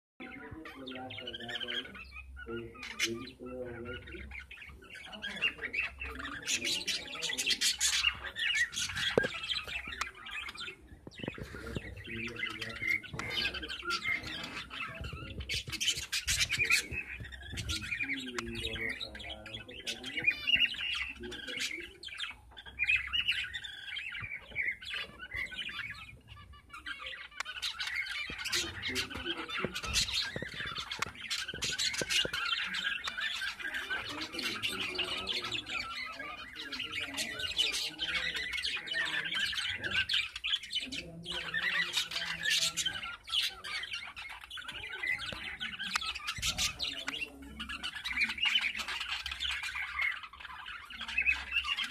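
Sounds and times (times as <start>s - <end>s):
budgerigars chattering and squawking: 0.2s - 51.9s.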